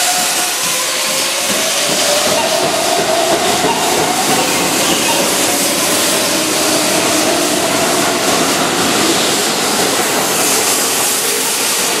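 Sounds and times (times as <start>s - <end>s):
electric train passing close by: 0.0s - 12.0s.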